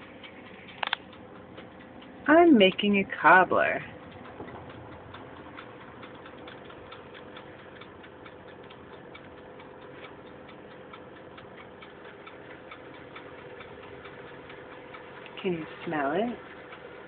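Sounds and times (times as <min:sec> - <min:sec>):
mechanical timer ticking: 0:00.0 - 0:17.0
toaster oven humming: 0:00.0 - 0:17.0.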